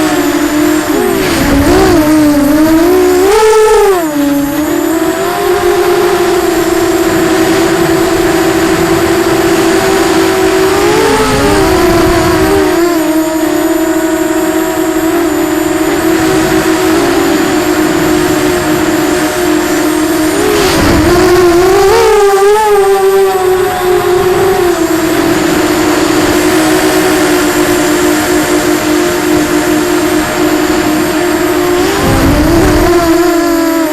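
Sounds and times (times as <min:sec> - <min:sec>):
quadcopter motors whining: 0:00.0 - 0:33.9.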